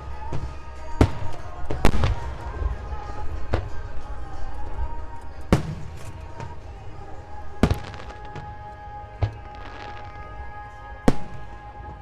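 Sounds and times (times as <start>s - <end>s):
firework shells bursting: 0.0s - 10.4s
continuous low rumble: 0.0s - 12.0s.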